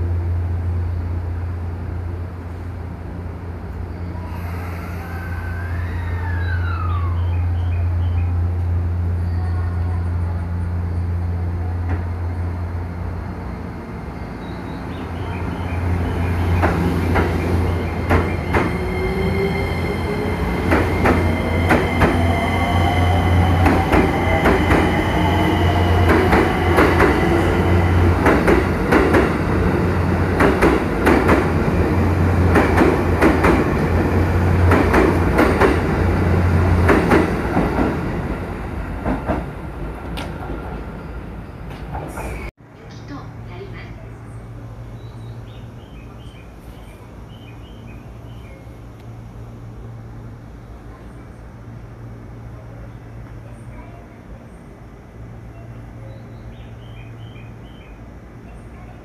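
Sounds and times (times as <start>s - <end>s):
electric train accelerating past: 0.0s - 53.5s.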